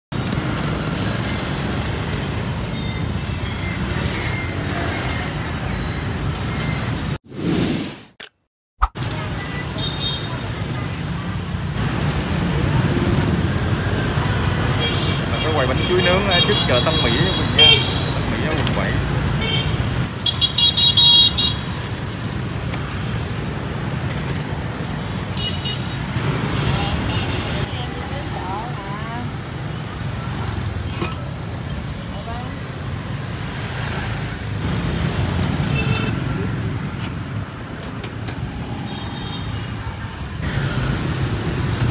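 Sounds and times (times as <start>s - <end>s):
city traffic rumble: 0.1s - 7.2s, 8.9s - 41.9s
motorbikes and cars passing: 0.2s - 7.2s, 9.1s - 41.9s.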